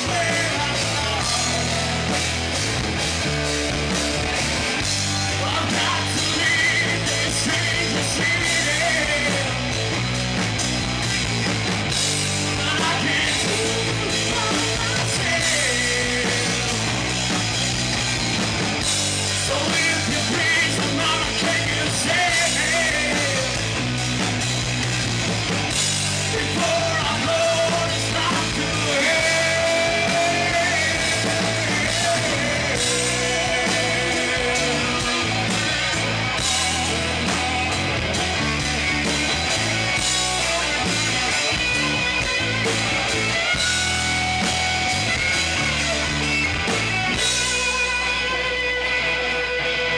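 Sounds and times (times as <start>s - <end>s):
lead singer singing: 0.0s - 2.5s, 5.2s - 9.9s, 12.4s - 17.2s, 19.2s - 24.0s, 26.1s - 49.9s
rock band playing live: 0.0s - 49.9s.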